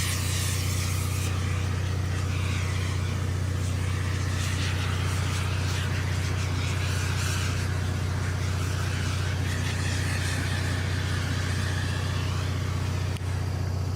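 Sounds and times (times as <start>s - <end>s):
engine idling: 0.0s - 13.9s
flickering hiss: 0.0s - 13.9s.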